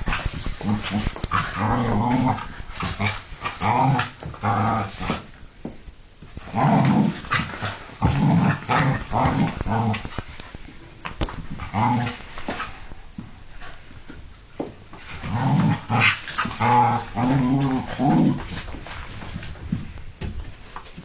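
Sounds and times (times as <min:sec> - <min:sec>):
dogs play growling: 0:00.0 - 0:05.4, 0:06.3 - 0:14.3, 0:14.9 - 0:19.8.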